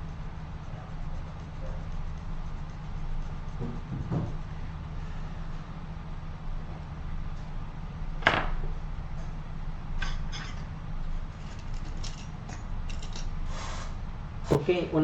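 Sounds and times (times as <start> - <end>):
low hum of bench equipment: 0.0 - 15.0.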